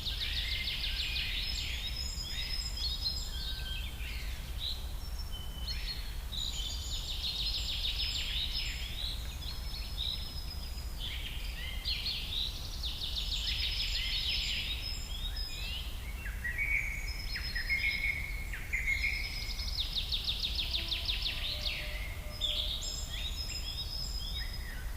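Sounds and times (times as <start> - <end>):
songbirds singing: 0.0 - 24.9.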